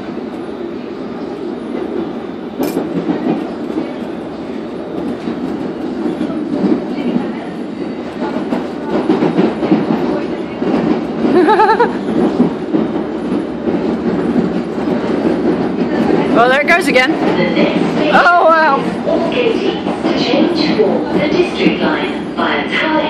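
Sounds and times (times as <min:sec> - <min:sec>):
train rumble with wheel-on-rail noise: 0:00.0 - 0:23.0.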